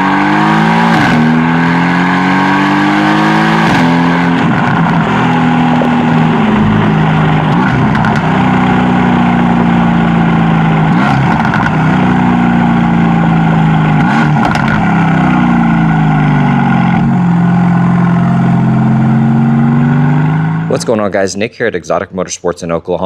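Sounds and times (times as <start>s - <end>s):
sports car engine and exhaust: 0.0s - 23.0s.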